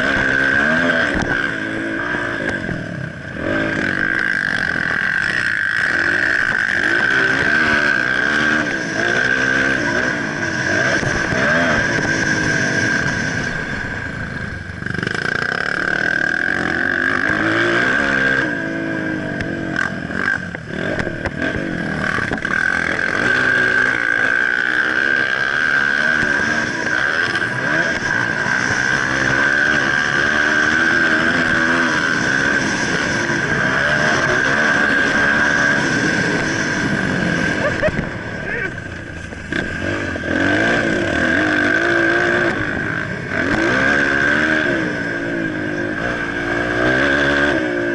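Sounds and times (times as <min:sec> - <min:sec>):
dirt bike engine revving: 0:00.0 - 0:47.9
steady high whine: 0:00.0 - 0:47.9.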